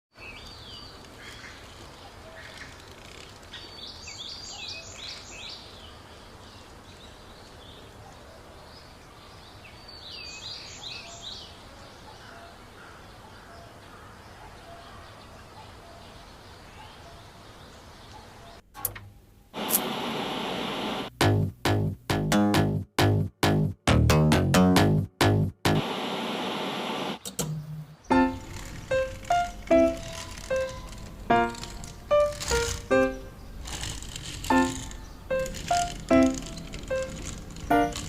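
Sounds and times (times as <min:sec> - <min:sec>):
steady background hiss: 0:00.2 - 0:14.4, 0:15.2 - 0:21.2, 0:25.8 - 0:38.0.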